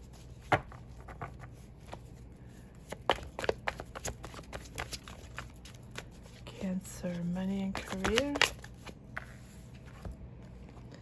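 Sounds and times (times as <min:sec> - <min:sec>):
cards being shuffled: 0:00.0 - 0:06.5, 0:07.1 - 0:11.0.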